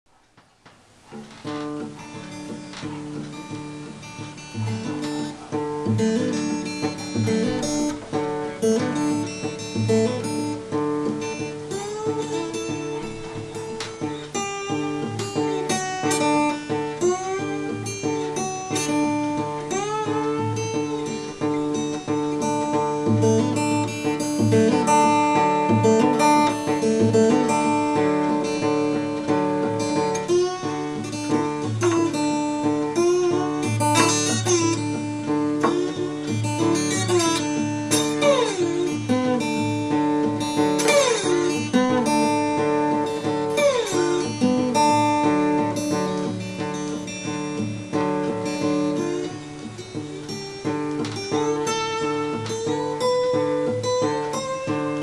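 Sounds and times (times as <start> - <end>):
slide blues acoustic guitar: 0.4 - 55.0.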